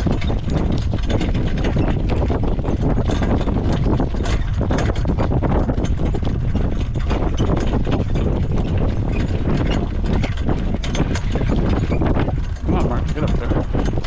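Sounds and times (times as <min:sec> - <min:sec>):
horse hooves clip-clopping: 0:00.0 - 0:14.0
low rumble: 0:00.0 - 0:14.0.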